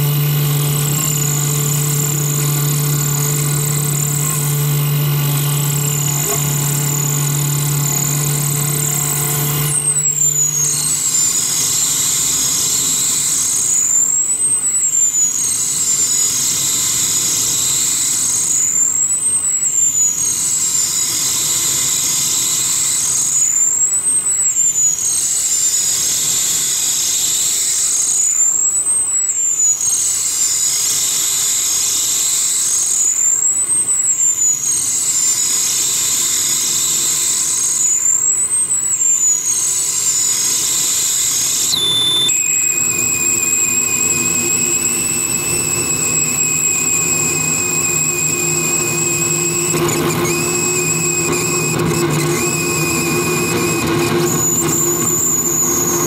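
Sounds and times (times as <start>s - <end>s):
steady high-pitched tones: 0.0s - 56.0s
sweeping high whistling tone: 0.0s - 56.0s.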